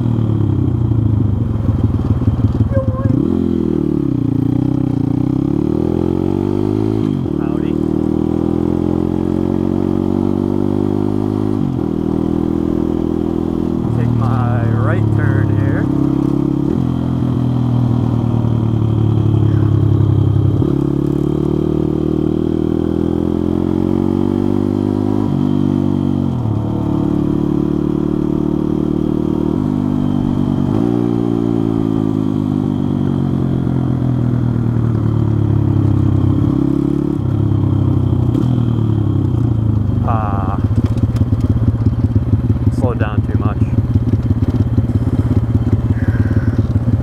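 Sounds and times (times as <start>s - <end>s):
small motorbike engine revving: 1.7s - 42.4s, 44.2s - 47.0s.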